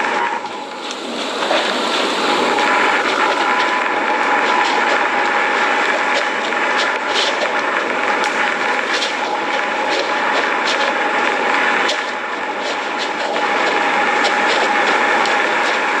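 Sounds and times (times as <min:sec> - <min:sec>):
jet-like rushing roar: 0:00.0 - 0:16.0.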